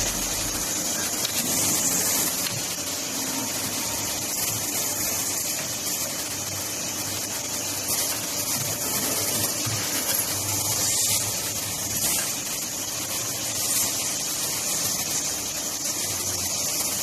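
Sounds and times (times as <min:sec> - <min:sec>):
cnc machine hissing and rumbling: 0:00.0 - 0:17.0.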